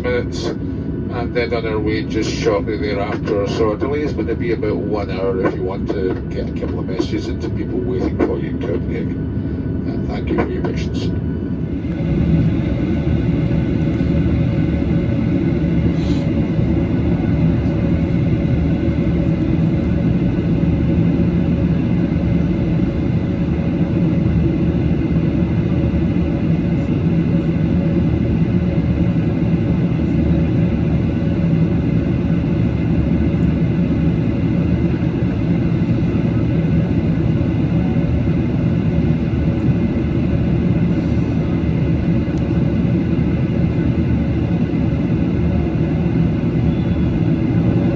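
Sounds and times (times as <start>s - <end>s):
aircraft cabin drone: 0.0s - 47.9s.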